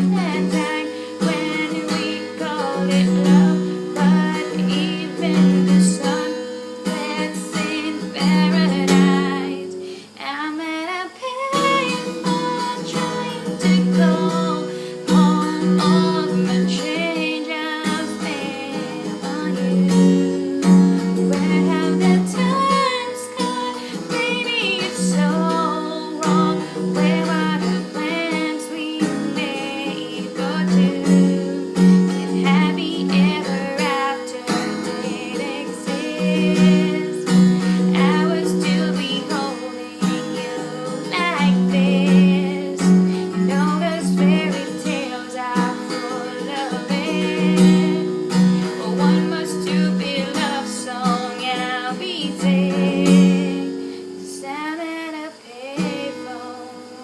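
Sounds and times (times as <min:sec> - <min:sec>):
strummed acoustic guitar: 0:00.0 - 0:57.0
woman singing a pop song: 0:00.0 - 0:57.0.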